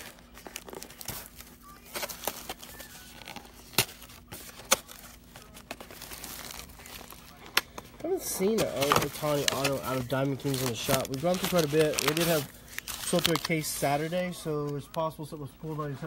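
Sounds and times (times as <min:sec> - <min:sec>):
plastic wrapping crinkling and tearing: 0:00.0 - 0:15.1
faint steady hum: 0:00.0 - 0:16.0.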